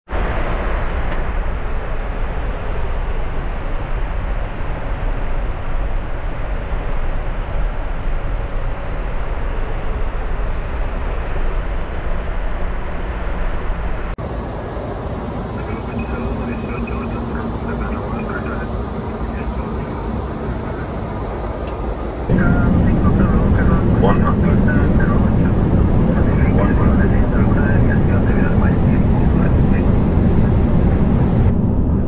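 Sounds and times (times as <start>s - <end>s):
cockpit airflow and engine noise: 0.1s - 32.0s
passenger cabin noise: 0.1s - 32.0s.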